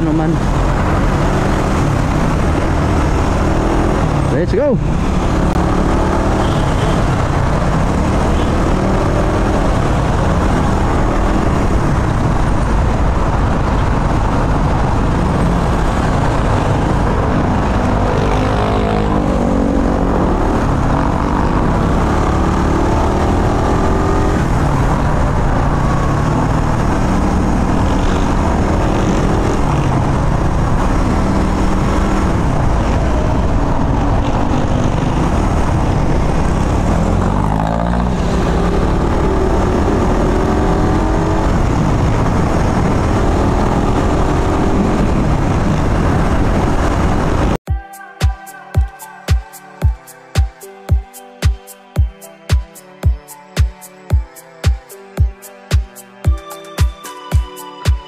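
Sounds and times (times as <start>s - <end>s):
wind rushing over microphone: 0.0s - 47.6s.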